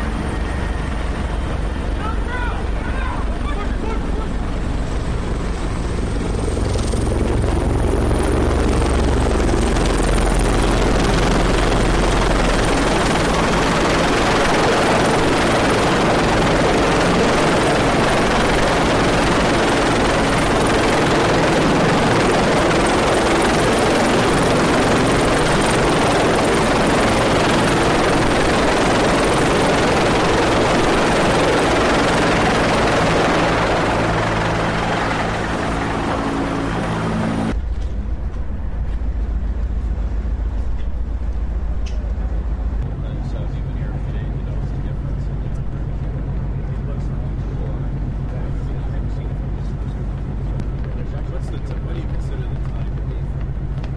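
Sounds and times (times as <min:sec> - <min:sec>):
helicopter rotor noise: 0:00.0 - 0:53.9.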